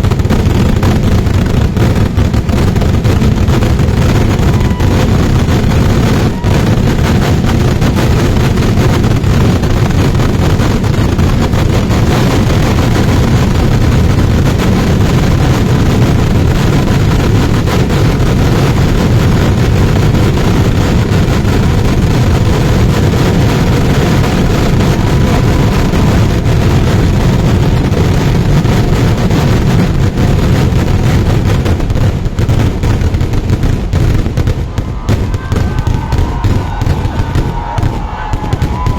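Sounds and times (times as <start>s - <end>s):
firework explosions: 0.0s - 38.9s.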